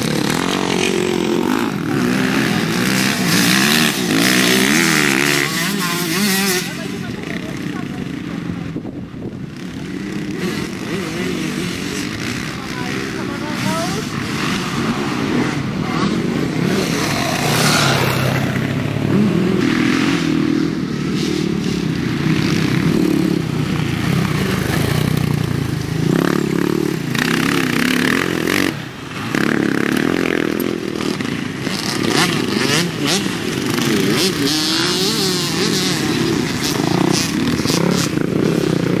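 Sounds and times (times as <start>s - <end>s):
dirt bike engines revving: 0.0s - 39.0s
dirt bike passing close: 0.0s - 39.0s.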